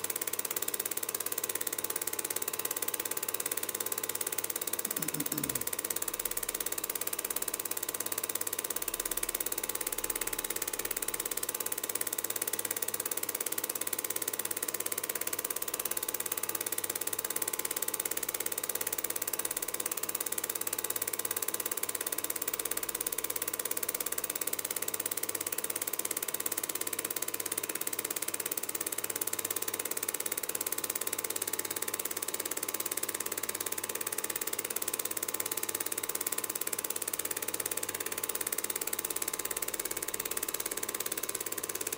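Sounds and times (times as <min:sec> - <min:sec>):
film projector whirring: 0:00.0 - 0:41.9.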